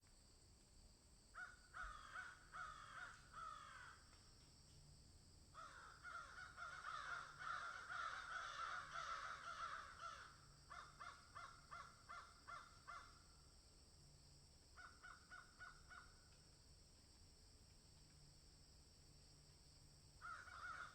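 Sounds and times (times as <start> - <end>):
faint steady hiss: 0.0 - 20.9.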